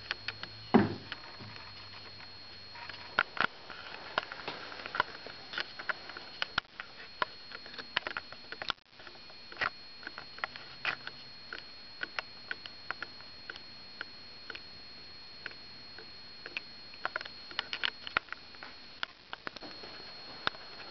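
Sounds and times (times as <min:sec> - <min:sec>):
faint high whine: 0:00.0 - 0:20.9.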